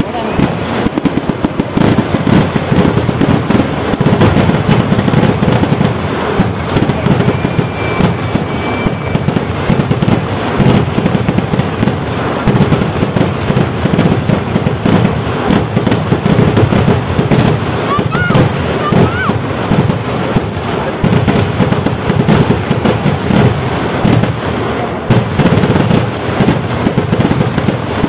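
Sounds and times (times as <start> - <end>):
fireworks barrage rumbling: 0.0 - 28.0.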